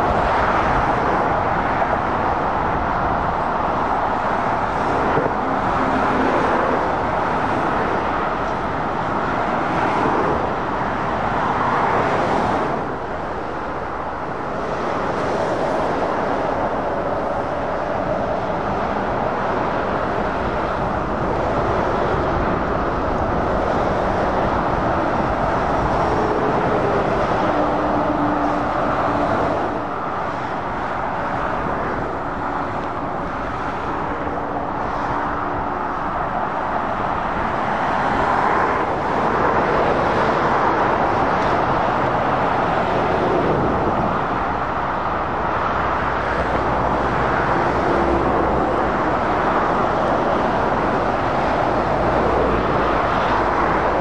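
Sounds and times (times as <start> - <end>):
truck engines humming: 0.0 - 54.0
tyre noise of passing traffic: 0.0 - 54.0.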